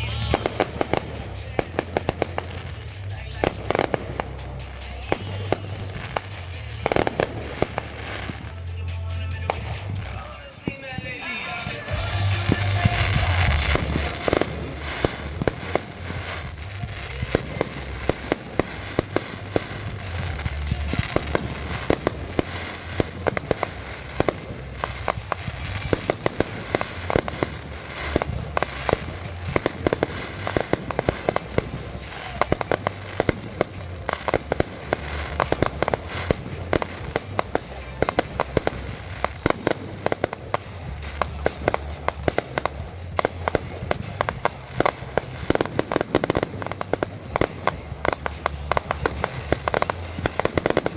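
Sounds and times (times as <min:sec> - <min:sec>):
fireworks cracking and popping: 0:00.0 - 0:50.9.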